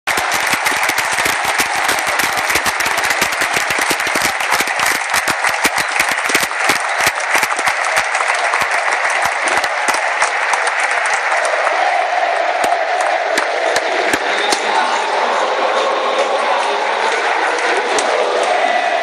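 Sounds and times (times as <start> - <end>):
crowd clapping: 0.0 - 19.0
crowd din: 0.1 - 19.0.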